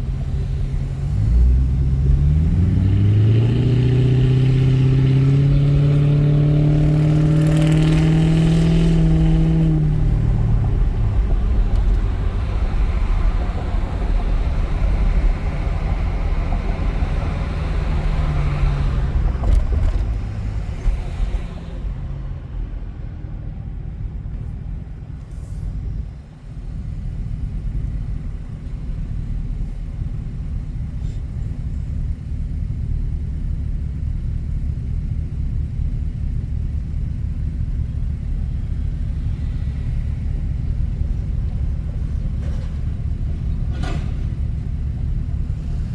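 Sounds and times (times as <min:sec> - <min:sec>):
car engine accelerating: 0:00.0 - 0:24.9, 0:25.8 - 0:45.9.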